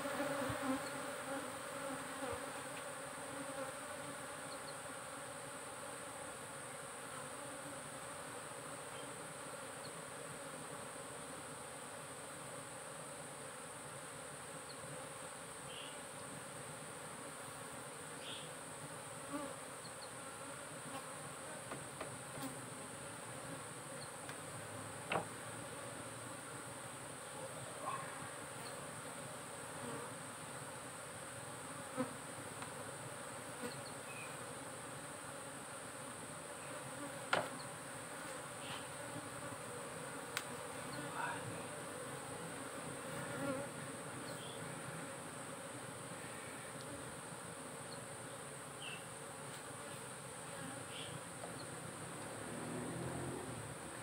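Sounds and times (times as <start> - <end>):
bees buzzing: 0.0 - 54.0.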